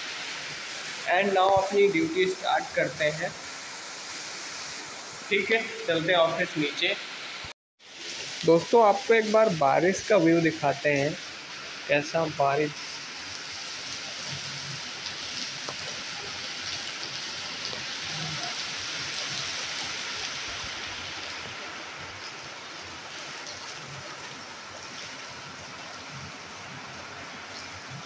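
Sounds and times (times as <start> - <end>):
steady rain pouring: 0.0 - 28.0.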